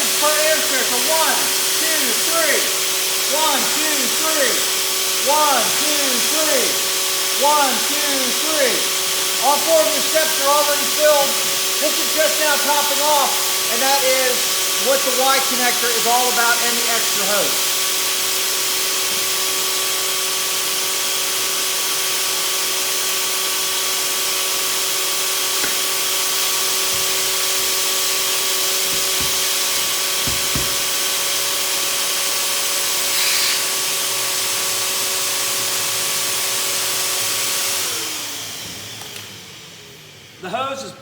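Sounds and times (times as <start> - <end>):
electric air pump whining: 0.0 - 40.4.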